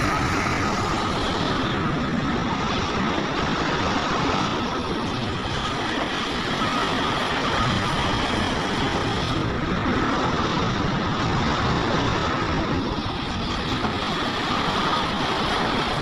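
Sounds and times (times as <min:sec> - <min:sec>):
heavy diesel machinery running: 0:00.0 - 0:16.0.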